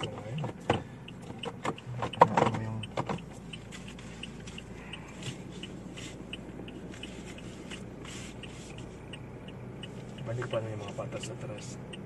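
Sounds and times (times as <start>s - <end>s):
car engine humming: 0.0s - 12.0s
turn signal ticking: 0.0s - 12.0s.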